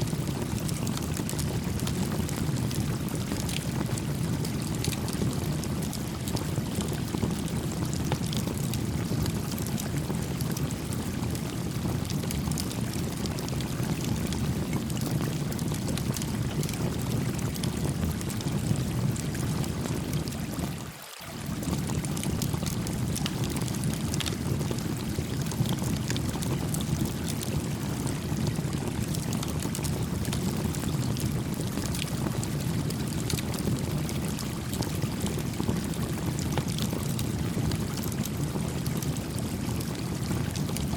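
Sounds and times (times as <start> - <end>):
campfire crackling: 0.2 - 20.6, 21.5 - 40.9.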